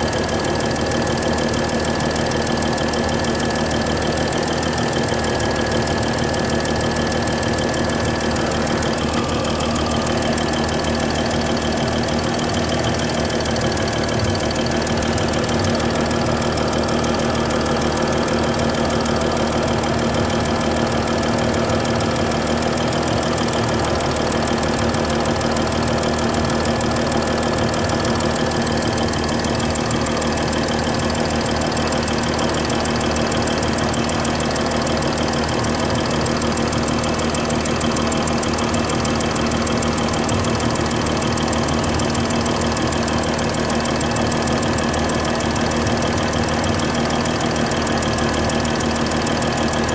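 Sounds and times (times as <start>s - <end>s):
car engine idling: 0.0s - 49.9s
fast even ticking: 0.0s - 49.9s.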